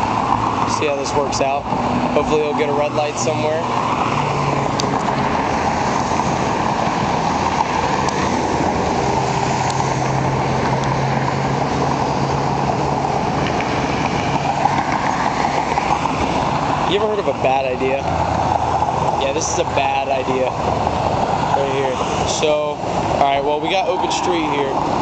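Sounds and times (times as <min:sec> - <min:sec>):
low engine hum: 0:00.0 - 0:25.0
vehicles passing: 0:00.0 - 0:25.0.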